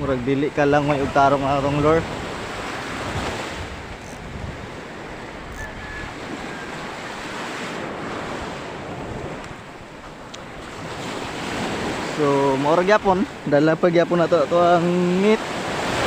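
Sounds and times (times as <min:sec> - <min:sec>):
wind on microphone: 0:00.0 - 0:13.4
surf breaking on beach: 0:00.0 - 0:16.0.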